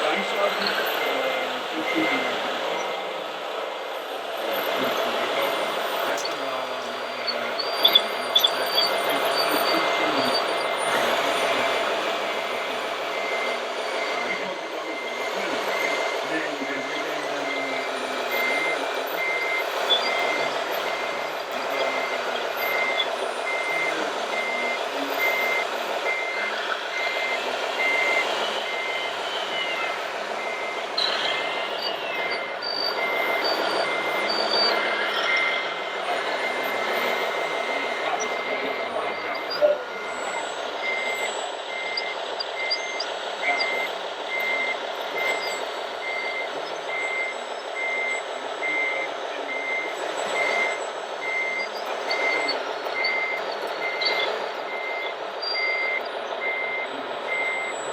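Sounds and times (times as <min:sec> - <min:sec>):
reversing beeper: 0:00.0 - 0:57.9
steady din with whines: 0:00.0 - 0:57.9.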